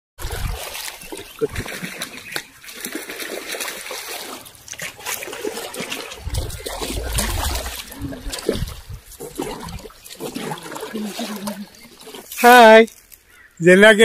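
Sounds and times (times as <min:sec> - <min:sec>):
water splashing from thrashing fish: 0:00.2 - 0:12.7.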